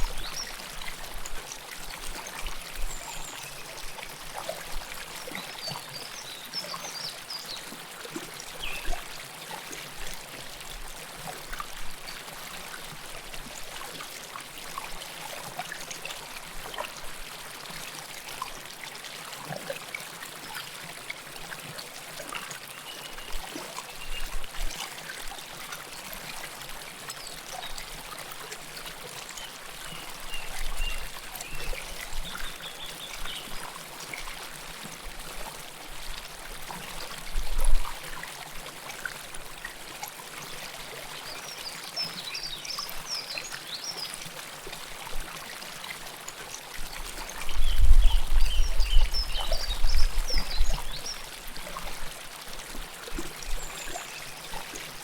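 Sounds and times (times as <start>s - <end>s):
river water flowing and trickling: 0.0s - 55.0s.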